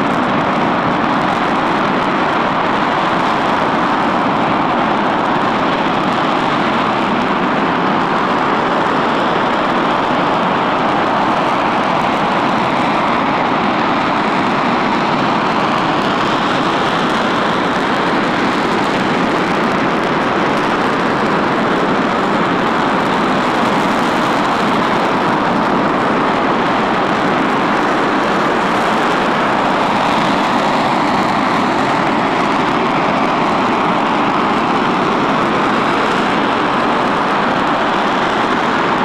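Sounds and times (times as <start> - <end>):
rocket engine roar: 0.0 - 39.0.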